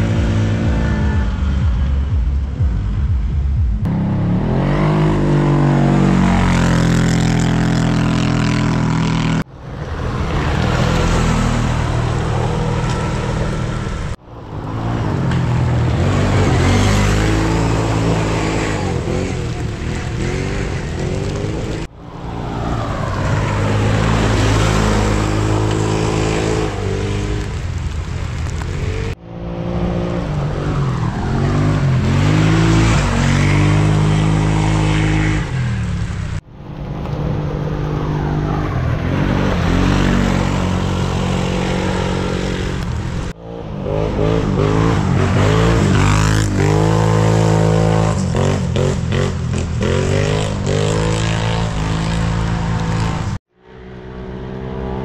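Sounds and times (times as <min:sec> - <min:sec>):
quad bike engines revving: 0:00.0 - 0:02.6, 0:03.8 - 0:21.9, 0:22.6 - 0:27.7, 0:28.6 - 0:36.4, 0:37.0 - 0:53.4.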